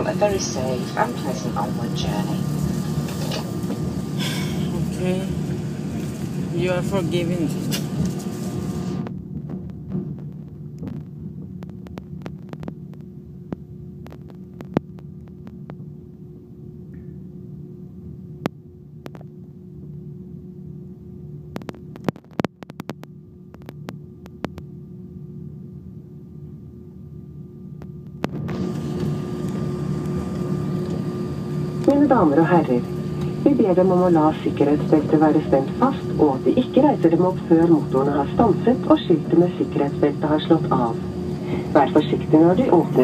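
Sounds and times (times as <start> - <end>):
airliner cabin hum: 0.0 - 43.0.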